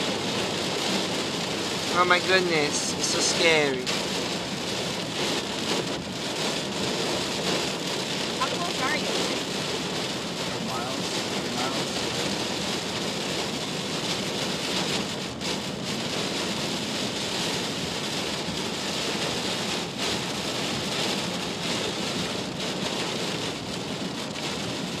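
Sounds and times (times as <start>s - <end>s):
heavy storm rain: 0.0s - 25.0s.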